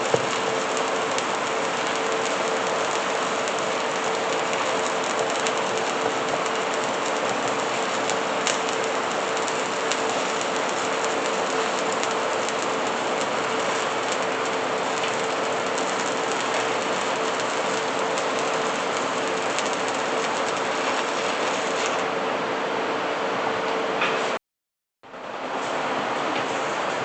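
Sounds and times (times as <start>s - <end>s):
welding arc crackling: 0.0s - 22.1s
steady hum: 0.0s - 23.6s.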